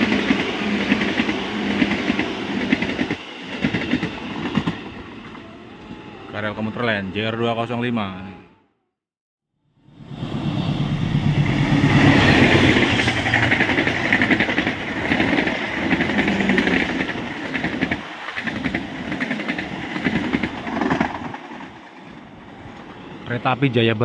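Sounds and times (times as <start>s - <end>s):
train passing at speed: 0.0s - 7.8s, 9.6s - 24.0s.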